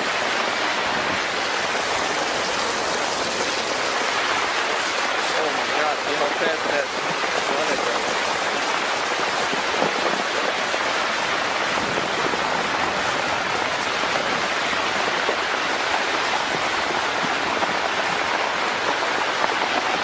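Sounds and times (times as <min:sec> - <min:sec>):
floodwater rushing roar: 0:00.0 - 0:20.0.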